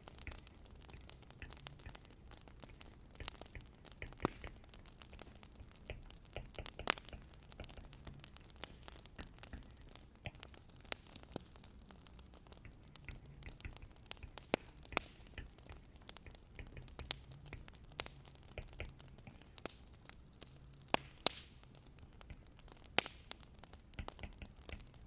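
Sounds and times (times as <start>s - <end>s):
low steady rumble: 0.0s - 24.0s
wood fire crackling: 0.0s - 25.0s.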